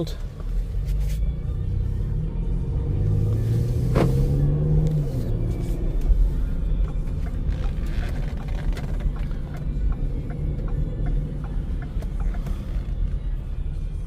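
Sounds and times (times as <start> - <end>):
car engine rumbling: 0.0 - 14.0
music playing: 0.0 - 14.0.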